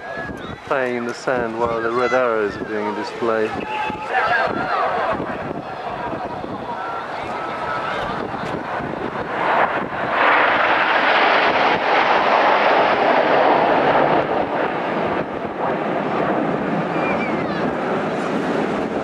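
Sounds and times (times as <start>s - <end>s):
jets passing overhead: 0.0s - 19.0s.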